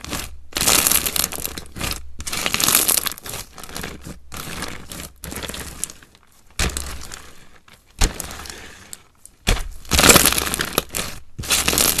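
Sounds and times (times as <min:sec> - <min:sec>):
slime crackling and popping: 0:00.0 - 0:07.2, 0:08.0 - 0:12.0.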